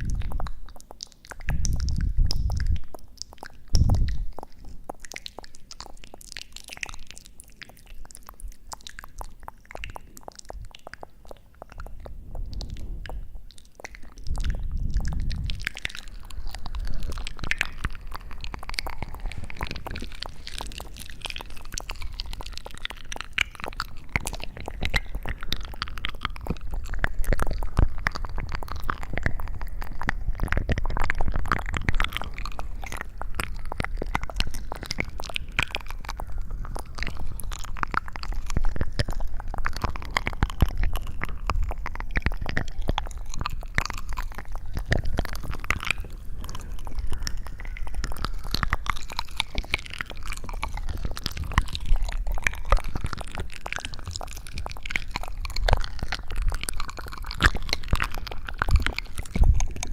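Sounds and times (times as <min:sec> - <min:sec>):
constant low rumble: 0:00.0 - 0:59.9
crackles and clicks: 0:00.0 - 0:59.9.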